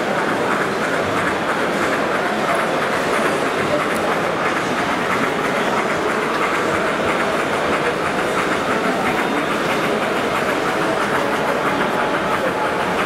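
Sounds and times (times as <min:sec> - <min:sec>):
model train wheels clicking: 0:00.0 - 0:13.0.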